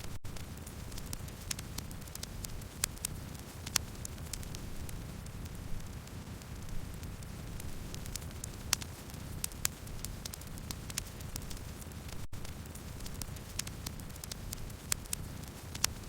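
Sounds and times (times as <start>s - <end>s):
campfire crackling and popping: 0.2s - 16.0s.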